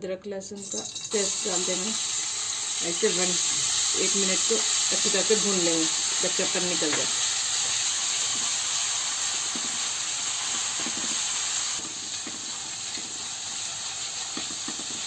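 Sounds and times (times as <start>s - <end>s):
paste sizzling in hot oil: 0.6s - 15.0s.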